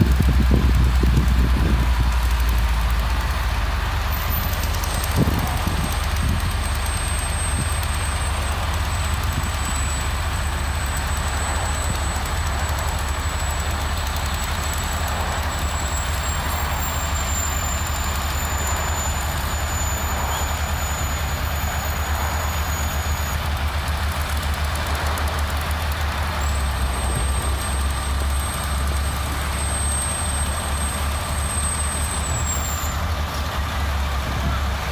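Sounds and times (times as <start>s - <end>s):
heavy diesel engine rumbling: 0.0s - 34.9s.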